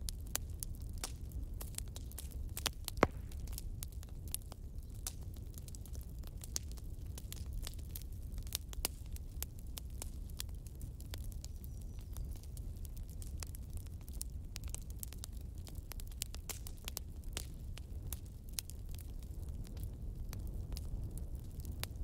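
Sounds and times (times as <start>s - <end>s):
campfire crackling and popping: 0.0s - 22.0s
low rumble of burning wood: 0.0s - 22.0s.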